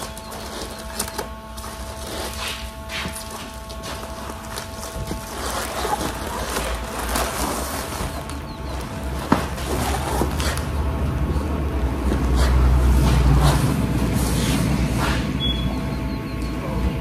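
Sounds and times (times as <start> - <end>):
foil crinkling and scraping: 0.0 - 15.0.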